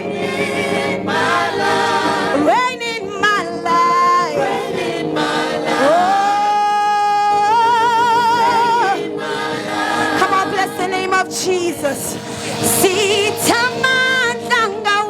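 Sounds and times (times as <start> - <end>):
church choir singing: 0.0 - 15.0.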